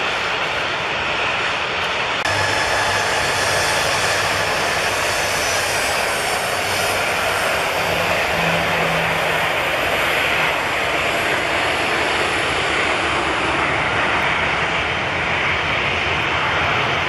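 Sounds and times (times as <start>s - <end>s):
aircraft engines running: 0.0s - 17.0s.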